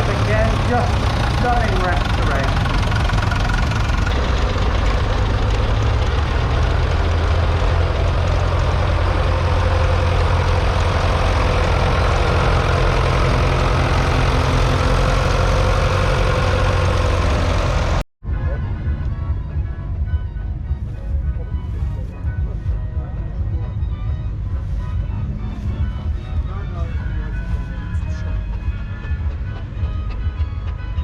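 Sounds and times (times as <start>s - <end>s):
diesel tractor engines idling: 0.0s - 18.6s, 19.2s - 31.0s.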